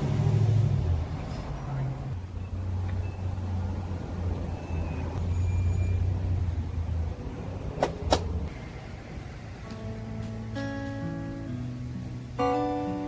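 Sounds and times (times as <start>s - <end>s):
motor vehicle rumble: 0.0s - 12.9s.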